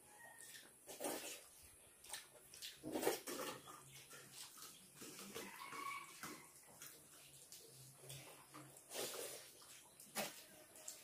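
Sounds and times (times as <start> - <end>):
wet chewing and lip smacking: 0.3 - 11.0.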